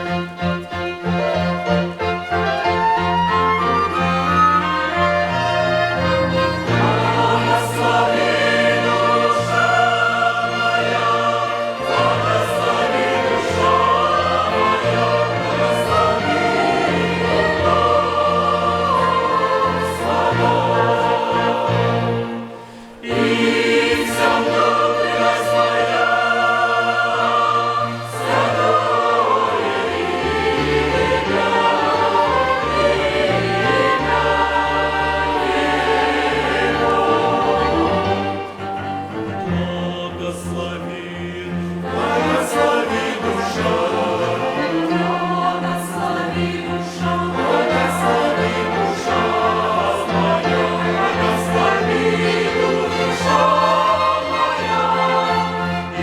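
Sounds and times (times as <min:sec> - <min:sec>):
choir singing a hymn: 0:00.0 - 0:56.0
string orchestra: 0:00.0 - 0:56.0.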